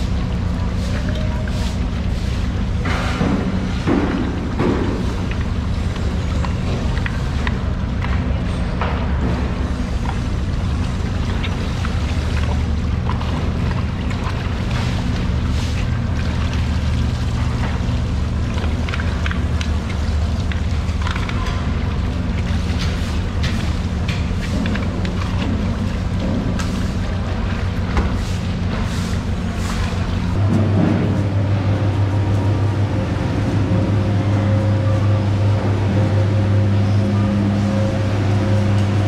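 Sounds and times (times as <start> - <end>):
machinery drone: 0.0 - 39.0.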